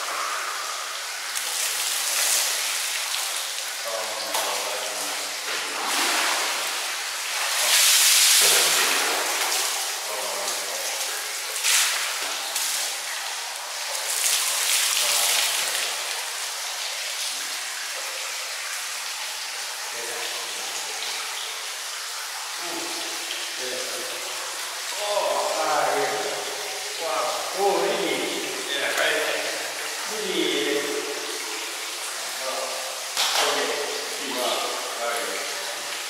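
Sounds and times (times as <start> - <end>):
water hissing: 0.0 - 16.6, 19.9 - 36.0
water poured and splashing: 0.0 - 36.0.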